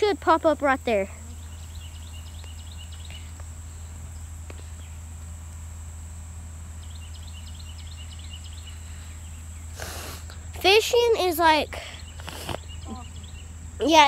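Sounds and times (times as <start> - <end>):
low hum: 0.0 - 14.0
bird chirping: 0.8 - 5.1, 6.7 - 14.0.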